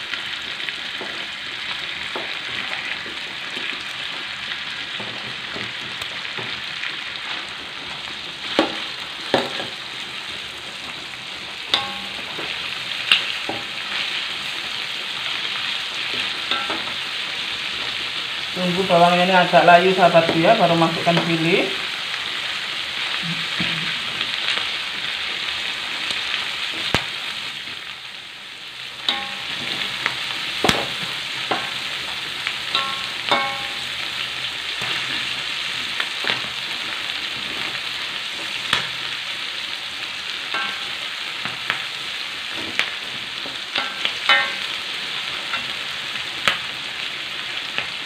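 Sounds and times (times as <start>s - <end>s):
food sizzling in hot oil: 0.0s - 48.0s.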